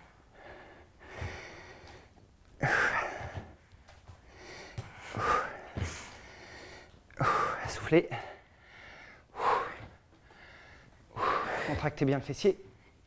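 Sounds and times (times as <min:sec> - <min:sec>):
person breathing hard: 0:00.0 - 0:11.9.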